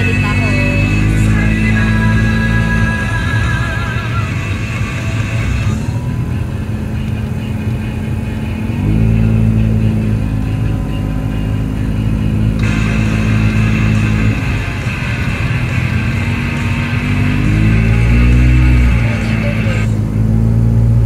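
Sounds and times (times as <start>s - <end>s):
car engine hum from inside cabin: 0.0s - 21.0s.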